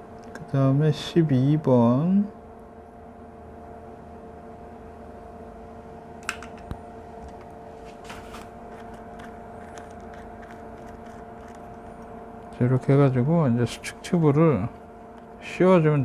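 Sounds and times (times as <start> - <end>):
appliance humming: 0.0 - 16.0.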